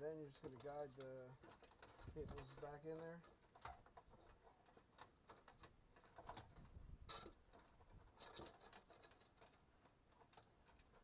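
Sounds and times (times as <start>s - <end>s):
plastic and wiring rustling and clicking: 0.3s - 11.0s.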